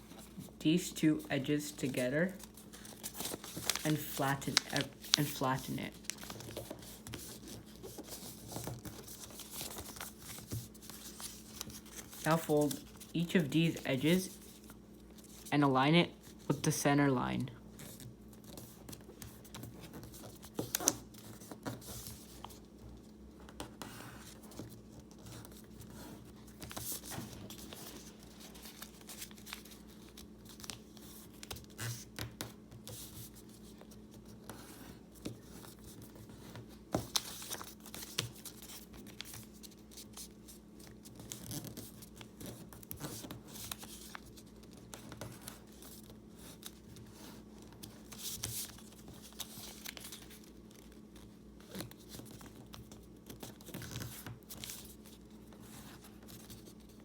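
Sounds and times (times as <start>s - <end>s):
faint steady hum: 0.0s - 57.0s
paper rustling and crackling: 1.8s - 15.5s, 17.8s - 57.0s.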